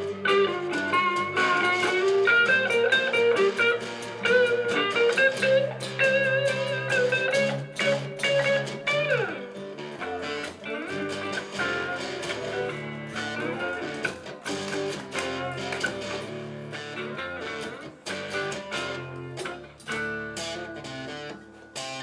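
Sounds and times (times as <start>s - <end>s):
electric guitar lead: 0.0s - 22.0s
rhythmic accompaniment: 0.0s - 22.0s
strummed guitar: 0.0s - 22.0s.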